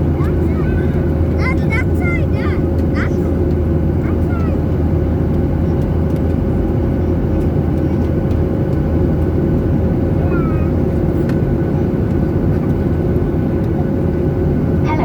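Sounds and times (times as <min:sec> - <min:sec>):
jet engine and airflow drone: 0:00.0 - 0:15.0.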